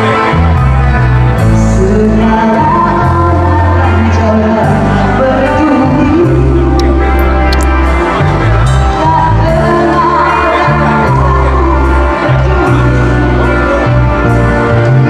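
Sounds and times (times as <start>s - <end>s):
live pop band playing: 0.0s - 15.0s
woman singing into a microphone: 1.6s - 14.8s.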